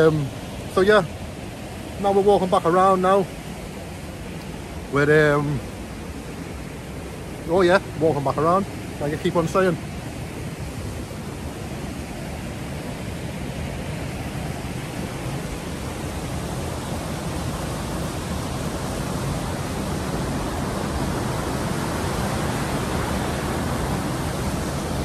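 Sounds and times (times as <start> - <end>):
river and waterfalls rushing: 0.0 - 25.0.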